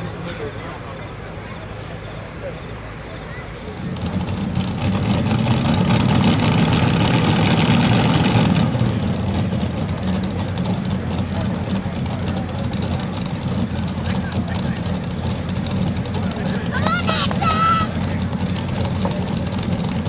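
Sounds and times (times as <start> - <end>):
pulling tractor engines running: 0.0 - 20.0.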